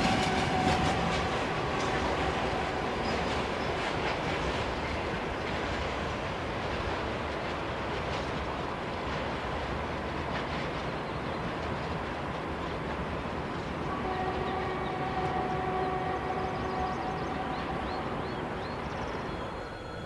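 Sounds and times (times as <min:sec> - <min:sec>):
freight train rumbling on rails: 0:00.0 - 0:20.0.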